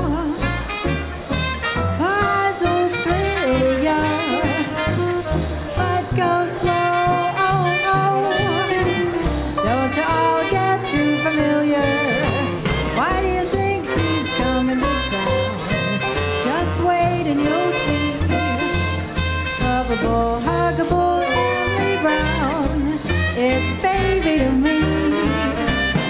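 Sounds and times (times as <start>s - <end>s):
swing band playing: 0.0s - 26.0s.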